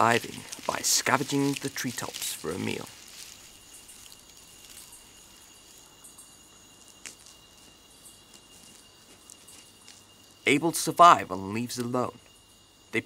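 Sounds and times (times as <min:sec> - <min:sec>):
high-pitched insect tone: 0:00.0 - 0:13.0
soft hiss: 0:00.0 - 0:13.0.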